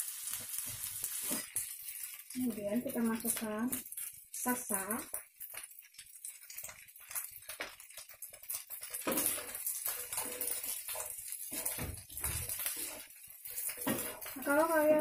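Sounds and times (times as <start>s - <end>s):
spatula stirring rice in frying pan: 0.0s - 15.0s.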